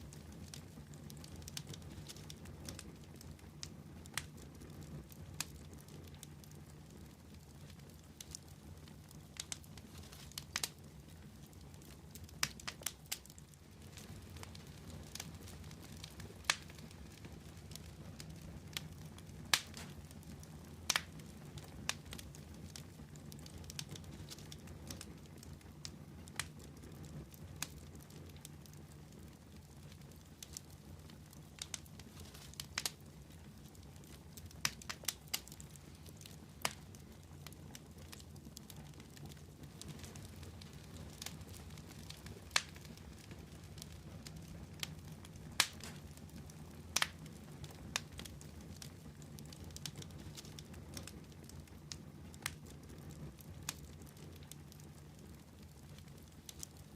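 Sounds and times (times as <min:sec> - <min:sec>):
fire crackling with sharp pops: 0:00.0 - 0:56.9.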